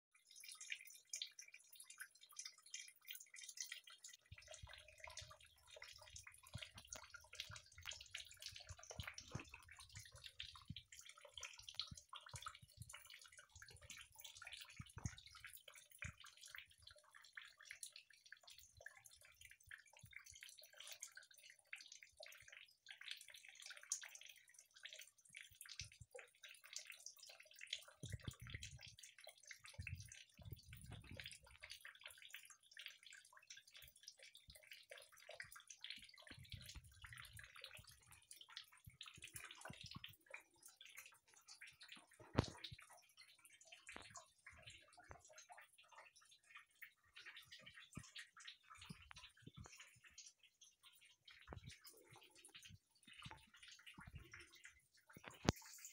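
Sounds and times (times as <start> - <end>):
water dripping and splattering: 0.1 - 55.9.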